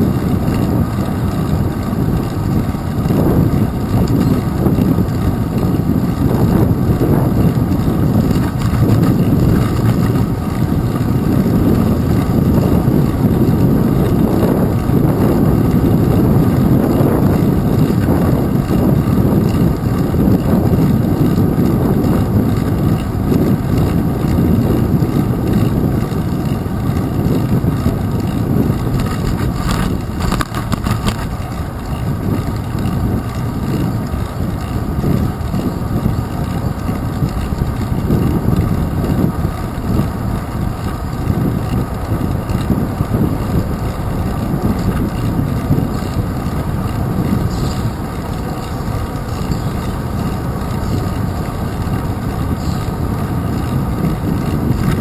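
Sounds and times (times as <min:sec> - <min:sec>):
bicycle tyres rolling: 0:00.0 - 0:55.0
light rattles: 0:00.0 - 0:55.0
wind rumbling on microphone: 0:00.0 - 0:55.0.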